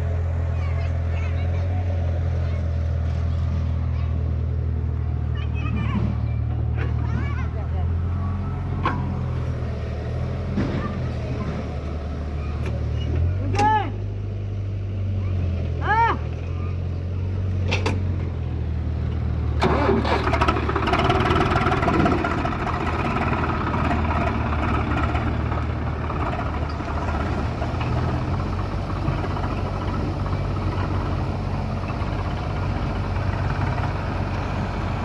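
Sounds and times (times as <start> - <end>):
engine clatter: 0.0 - 14.0, 15.2 - 35.0
heavy diesel engine running: 0.0 - 35.0.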